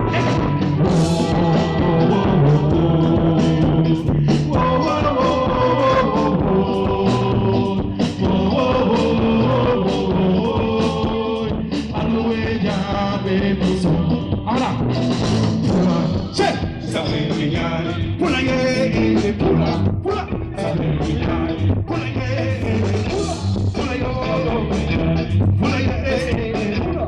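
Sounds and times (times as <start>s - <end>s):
person singing: 0.0s - 14.9s, 15.5s - 27.0s
bass: 0.0s - 27.0s
drums: 0.0s - 27.0s
guitar: 0.0s - 27.0s.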